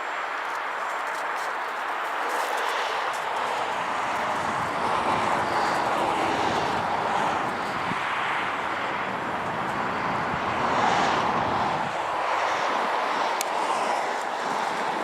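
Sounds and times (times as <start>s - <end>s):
propeller and air rush: 1.9s - 15.0s.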